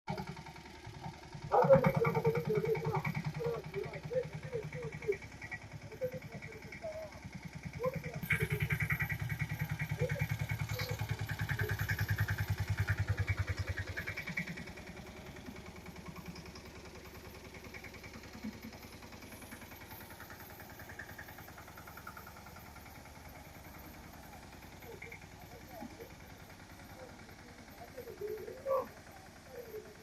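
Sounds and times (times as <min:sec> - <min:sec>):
engine running with rapid pulse: 0:00.1 - 0:30.0.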